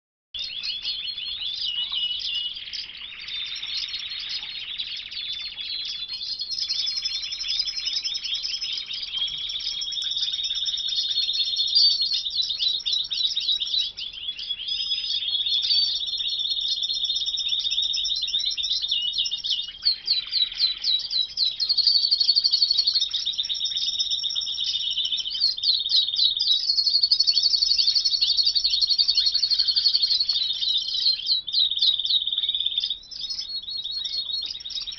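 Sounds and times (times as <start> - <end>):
canaries singing: 0.4 - 34.9.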